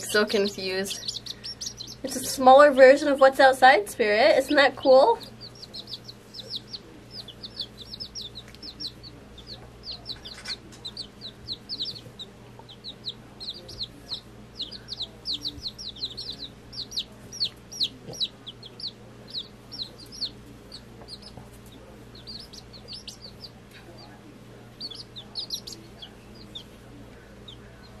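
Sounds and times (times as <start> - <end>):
chicks peeping: 0.0 - 28.0.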